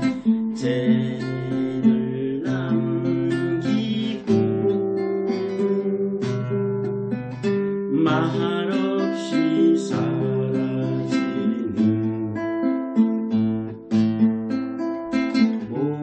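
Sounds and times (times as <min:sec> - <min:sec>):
classical guitar chords: 0:00.0 - 0:16.0.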